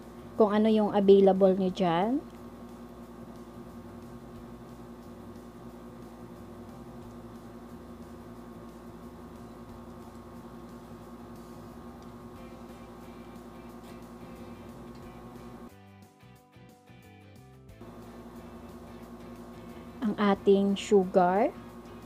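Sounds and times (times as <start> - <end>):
steady low hum: 0.0 - 15.7, 17.8 - 22.0.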